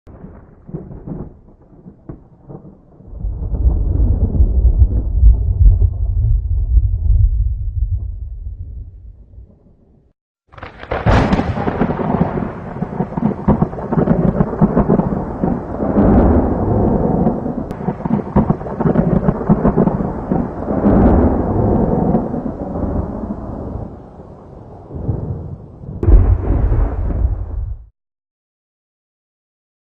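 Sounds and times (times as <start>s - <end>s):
thunder crack and rumble: 0.1s - 27.9s.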